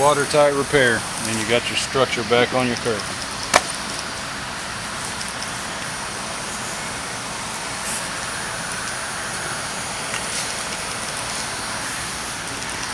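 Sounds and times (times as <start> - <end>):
rushing background hiss: 0.0 - 12.9.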